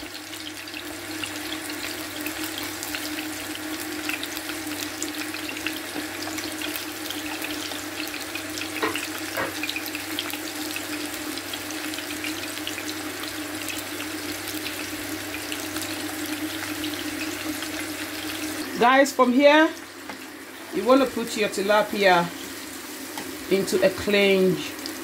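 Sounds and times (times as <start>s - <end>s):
fish sizzling in a frying pan: 0.0s - 25.0s.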